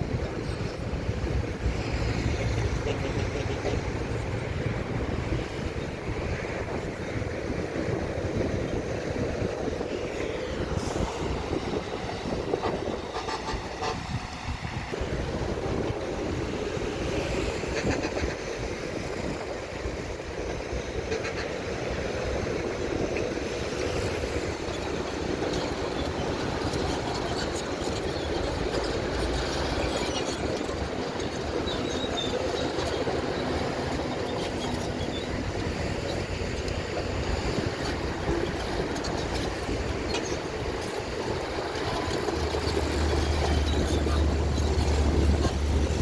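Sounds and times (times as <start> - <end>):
heavy machinery engine rumble: 0.0 - 46.0.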